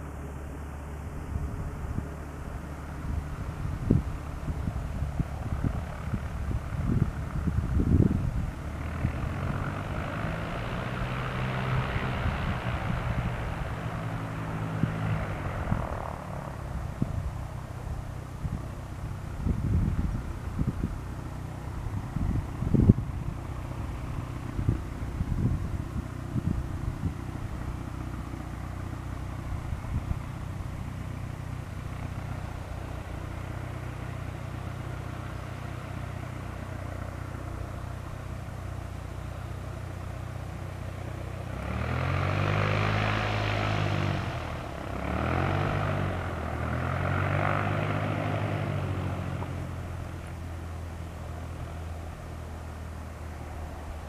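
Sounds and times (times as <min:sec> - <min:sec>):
aircraft engines idling: 0:00.0 - 0:54.0
propeller engine revving: 0:00.0 - 0:54.0.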